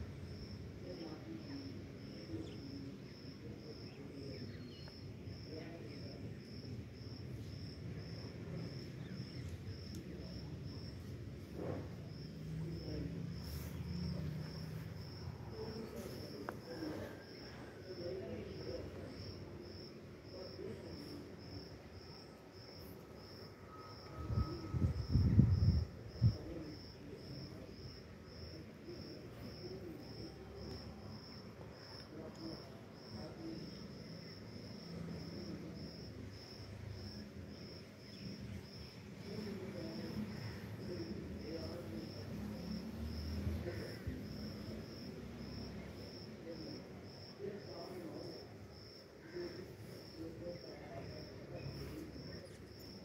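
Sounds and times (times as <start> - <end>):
cricket chirping: 0.0 - 53.0.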